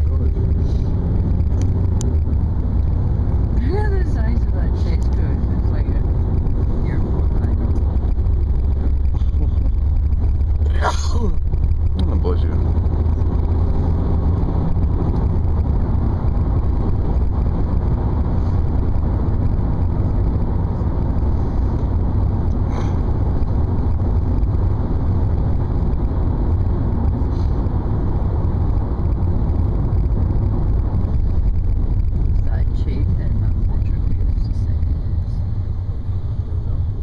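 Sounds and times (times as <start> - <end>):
vehicle cabin rumble: 0.0 - 37.0.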